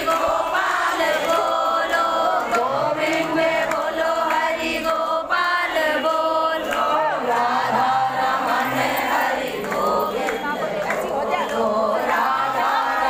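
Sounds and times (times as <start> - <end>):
women singing a chant in unison: 0.0 - 13.0.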